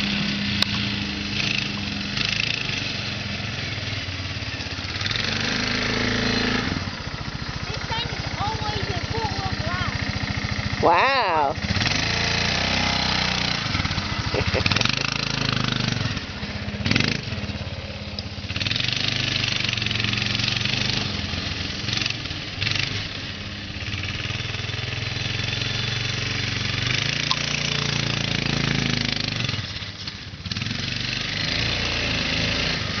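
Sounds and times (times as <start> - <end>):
quad bike engine revving: 0.0 - 33.0.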